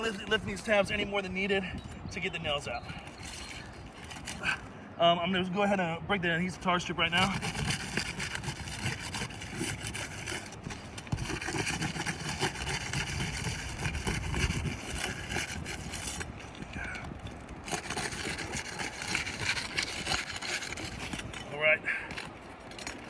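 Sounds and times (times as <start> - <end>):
tool scraping under shingles: 0.0 - 4.8, 6.6 - 23.0.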